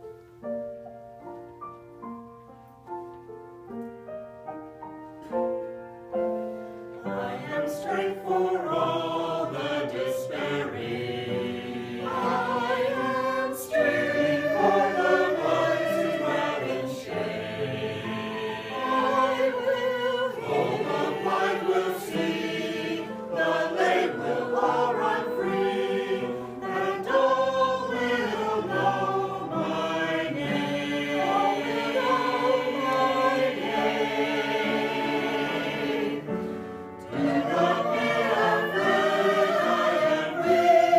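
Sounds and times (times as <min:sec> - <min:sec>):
choir singing gospel: 0:06.6 - 0:40.9.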